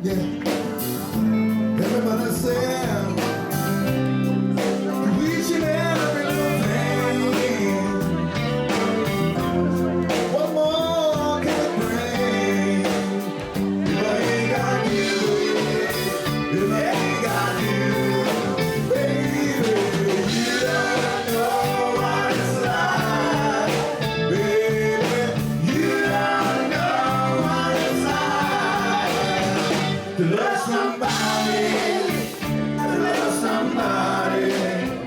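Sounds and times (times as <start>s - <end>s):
person singing: 0.0s - 3.9s, 4.6s - 35.0s
live band playing: 0.0s - 35.0s.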